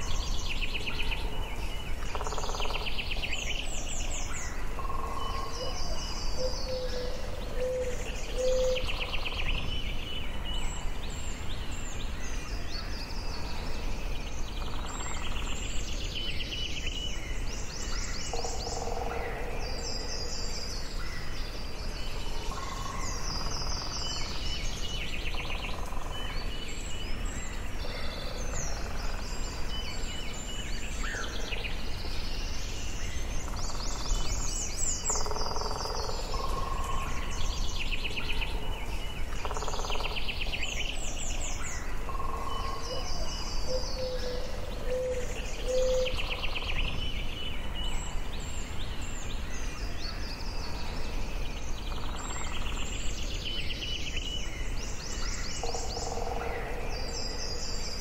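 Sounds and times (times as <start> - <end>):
low background hiss: 0.0 - 58.0
songbirds singing: 0.0 - 58.0.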